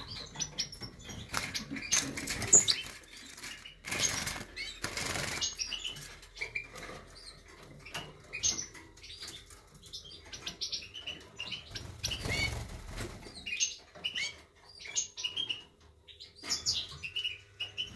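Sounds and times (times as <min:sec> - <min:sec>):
fledglings chirping: 0:00.0 - 0:17.9.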